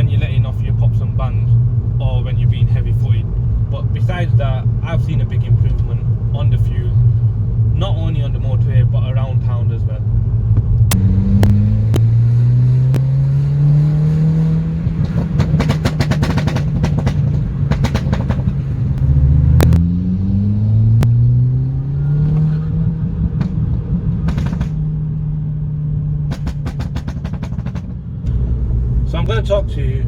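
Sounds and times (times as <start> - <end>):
exhaust crackles and pops: 0.0 - 20.0, 20.8 - 21.3, 22.2 - 30.0
car engine accelerating: 0.0 - 30.0.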